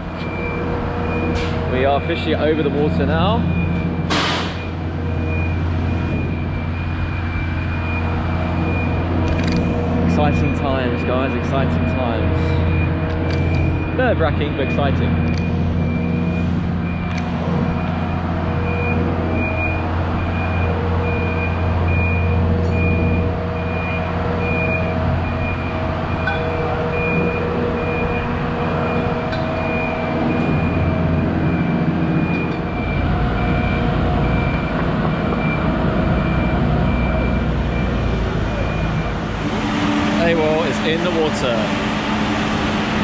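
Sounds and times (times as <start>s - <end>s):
lift engine rumbling: 0.0s - 43.0s
warning beeper: 0.0s - 43.0s.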